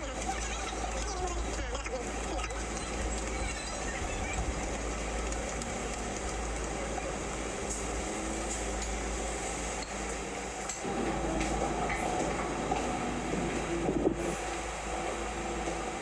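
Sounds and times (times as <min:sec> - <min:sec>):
motor hum: 0:00.0 - 0:16.0
train rumbling: 0:00.0 - 0:16.0.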